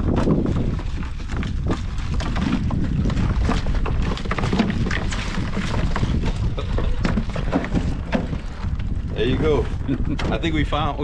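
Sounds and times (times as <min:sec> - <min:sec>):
handling clicks and clatters: 0:00.0 - 0:09.0
wind buffeting microphone: 0:00.0 - 0:11.0.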